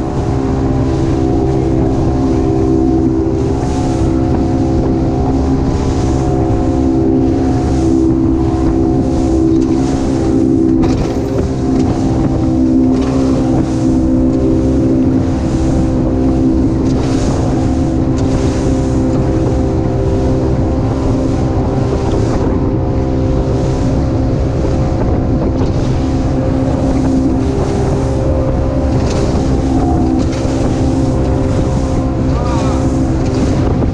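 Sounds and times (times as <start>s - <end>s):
motorboat engine running: 0.0s - 33.9s
water rushing along hull: 0.0s - 33.9s
wind buffeting microphone: 0.0s - 33.9s.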